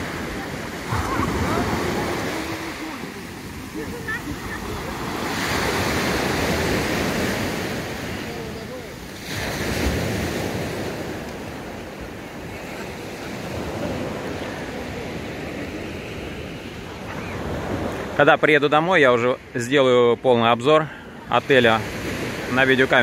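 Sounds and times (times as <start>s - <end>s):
small waves breaking on shore: 0.0s - 23.0s.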